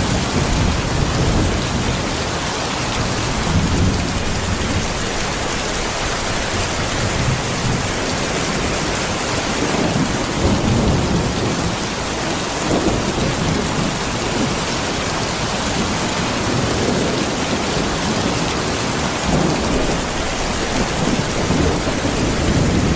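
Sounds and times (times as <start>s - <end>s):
steady rain falling: 0.0s - 22.9s
thunder rumbling: 0.0s - 22.9s.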